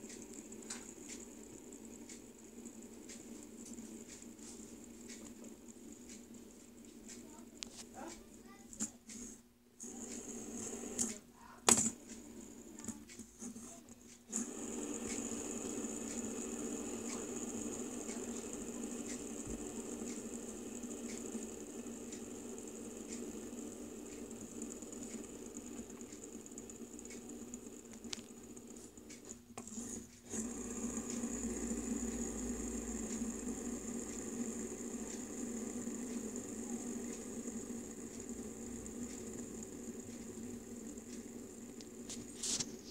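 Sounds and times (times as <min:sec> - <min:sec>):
sharp flicking clicks: 0:00.0 - 0:09.2, 0:14.8 - 0:29.4, 0:30.9 - 0:42.9
faint regular ticking: 0:00.0 - 0:42.9
fidget spinner whirring: 0:00.0 - 0:42.9.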